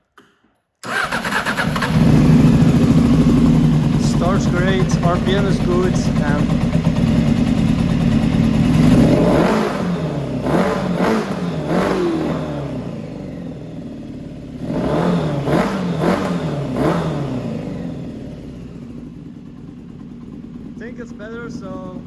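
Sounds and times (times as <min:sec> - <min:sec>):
motorcycle engine throttle blips: 0:00.9 - 0:22.0.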